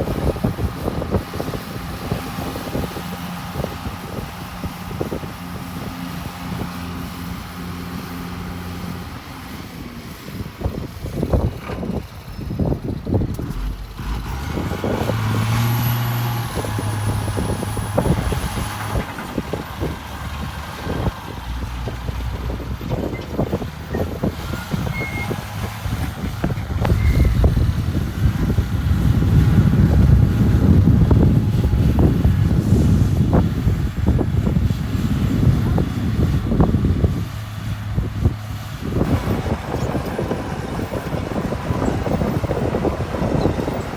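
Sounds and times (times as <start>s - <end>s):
heavy machinery engine running: 0.0s - 43.9s.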